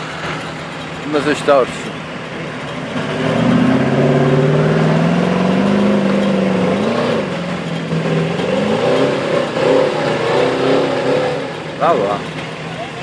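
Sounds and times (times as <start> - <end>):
diesel engine pulling hard: 0.0 - 13.0.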